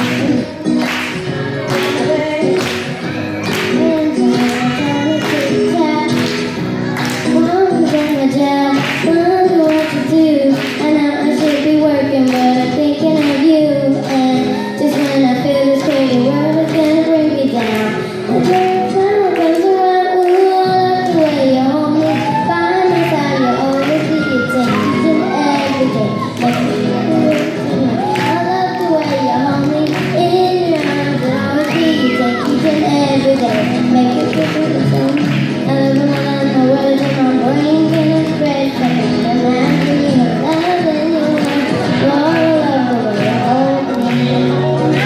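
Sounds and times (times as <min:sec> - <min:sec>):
girl singing pop song: 0:00.0 - 0:45.0.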